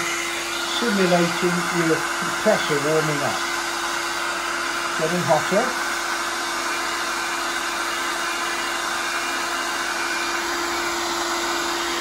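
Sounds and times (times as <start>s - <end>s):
hair dryer blowing air: 0.0s - 12.0s.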